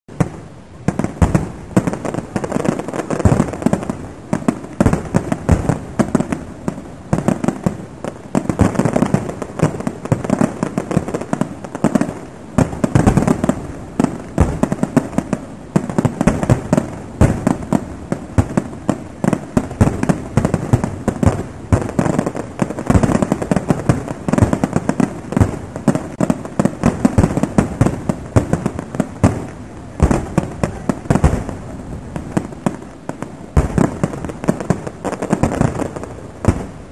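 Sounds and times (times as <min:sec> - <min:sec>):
fireworks bursting and crackling: 0:00.1 - 0:36.9.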